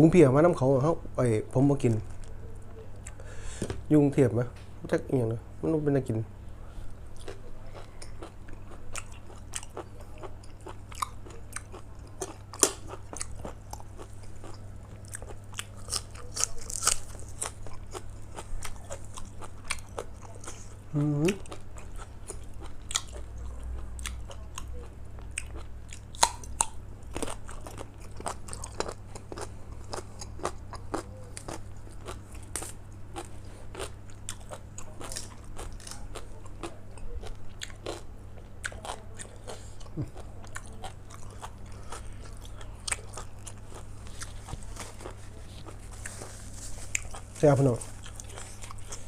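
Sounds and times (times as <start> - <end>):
person chewing crunchy food: 7.1 - 49.0.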